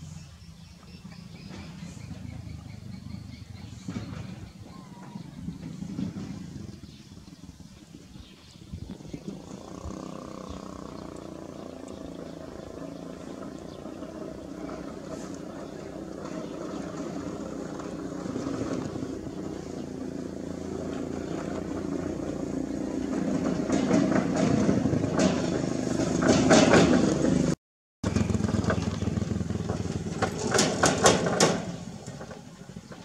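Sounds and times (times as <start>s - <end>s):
motor engine running: 0.1s - 33.0s.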